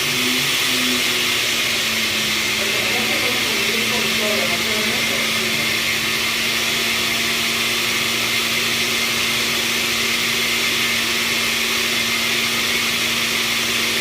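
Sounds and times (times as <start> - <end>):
blender motor humming: 0.0 - 14.0.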